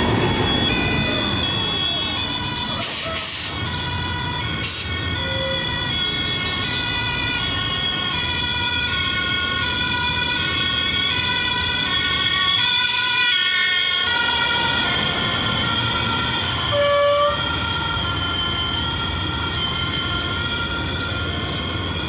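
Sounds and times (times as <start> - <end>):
two-tone siren: 0.0 - 22.0.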